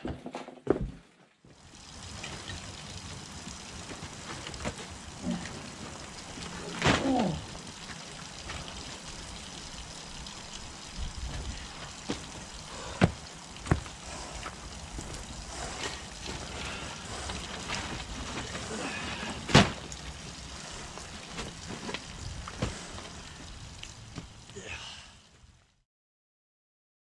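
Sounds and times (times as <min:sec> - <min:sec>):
trickle of water: 0:01.5 - 0:25.8.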